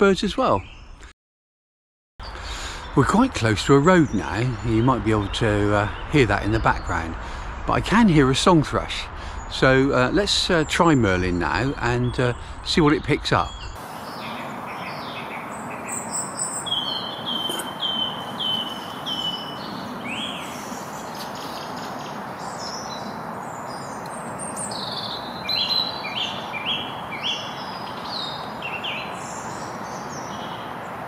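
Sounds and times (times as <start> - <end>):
robin singing: 0.0 - 1.0, 2.2 - 31.0
song thrush singing: 0.0 - 1.1, 2.2 - 31.0
distant road traffic: 2.2 - 31.0.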